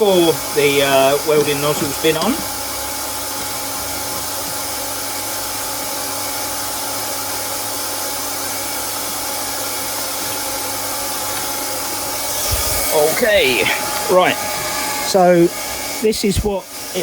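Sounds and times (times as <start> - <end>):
heat gun blower hiss: 0.0 - 17.0
motor hum: 0.0 - 17.0.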